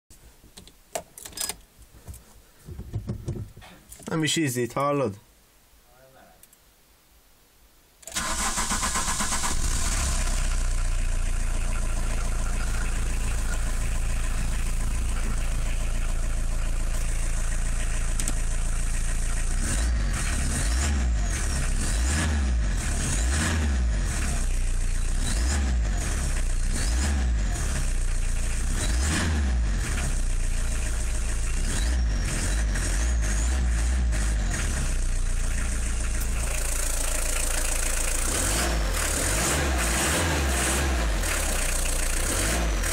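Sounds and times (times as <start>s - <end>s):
diesel engine idling and revving: 8.1s - 42.9s.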